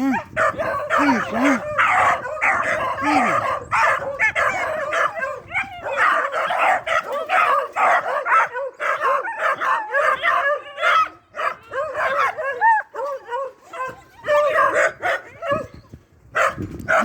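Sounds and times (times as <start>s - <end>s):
hound puppies baying: 0.0s - 17.0s.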